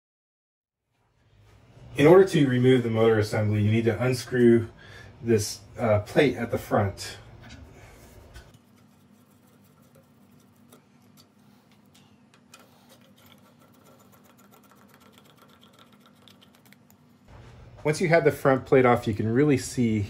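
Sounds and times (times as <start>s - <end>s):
faint steady hum: 0.9s - 20.0s.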